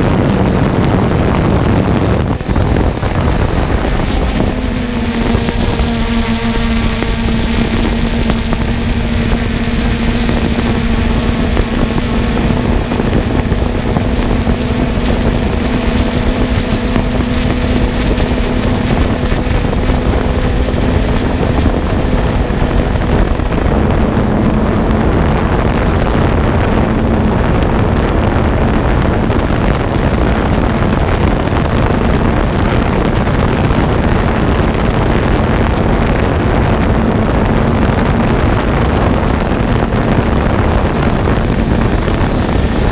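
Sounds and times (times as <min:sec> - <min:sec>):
drone propellers whirring: 0:00.0 - 0:42.9
wind noise on microphone: 0:00.0 - 0:42.9.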